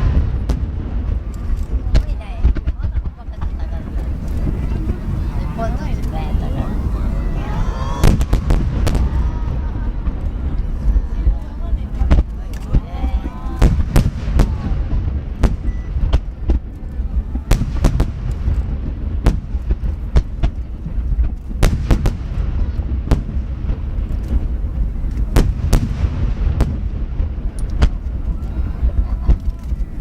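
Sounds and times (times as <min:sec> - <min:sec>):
firework shells bursting with bangs: 0:00.0 - 0:30.0
low rumble of overlapping booms: 0:00.0 - 0:30.0.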